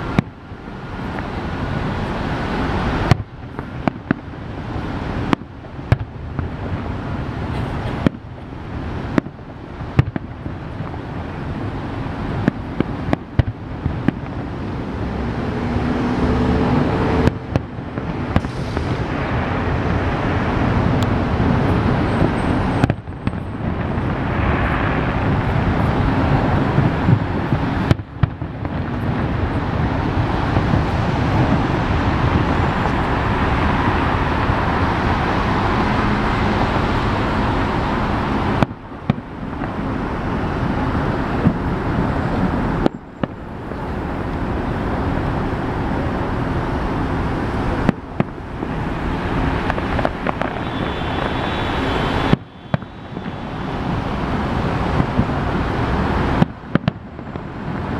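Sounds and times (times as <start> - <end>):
city traffic noise: 0.0 - 57.9
distant fireworks bursting: 0.0 - 57.9.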